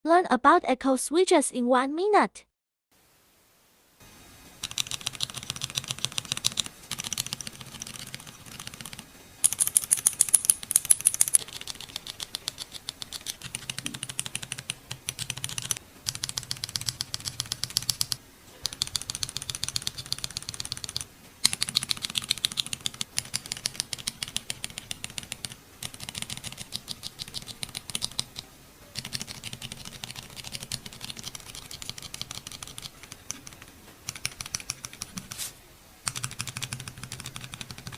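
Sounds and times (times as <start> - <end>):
mechanical keyboard switches clicking: 4.6 - 28.4, 29.0 - 35.2, 36.1 - 37.9.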